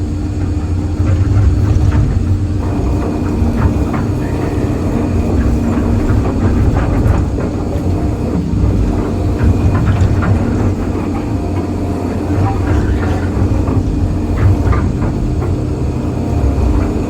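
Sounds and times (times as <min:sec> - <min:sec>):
excavator diesel engine running: 0:00.0 - 0:17.0
machine clanks and knocks: 0:00.0 - 0:17.0.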